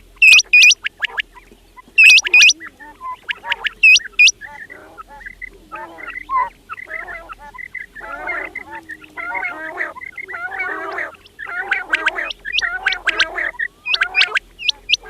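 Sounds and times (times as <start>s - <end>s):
quails chattering calls: 0.0s - 15.0s.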